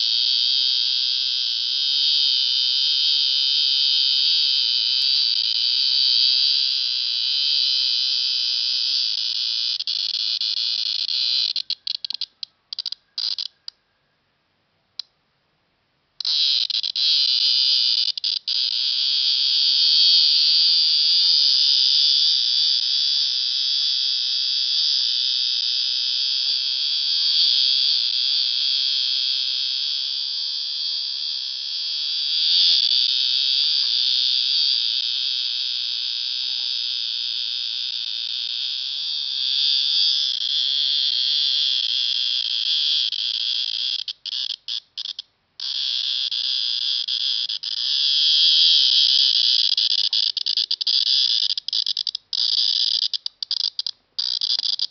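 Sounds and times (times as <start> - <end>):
cicada shrill buzz: 0.0 - 13.7, 16.2 - 54.9.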